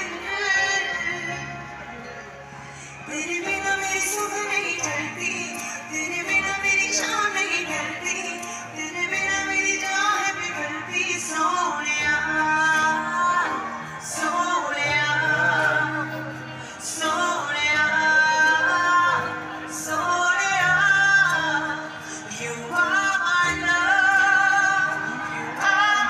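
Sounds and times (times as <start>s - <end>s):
woman singing live with band: 0.0s - 2.1s, 2.7s - 26.0s.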